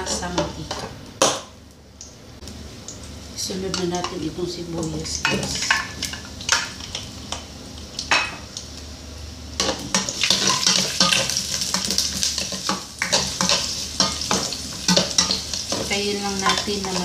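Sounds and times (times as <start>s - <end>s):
onions sizzling in oil: 2.4s - 17.0s.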